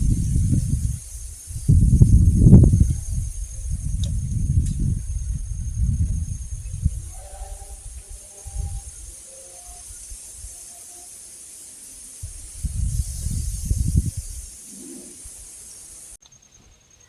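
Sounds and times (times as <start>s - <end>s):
low rumbling wind gusts: 0.0s - 10.7s, 11.8s - 16.2s
high-pitched insect chorus: 0.0s - 17.0s.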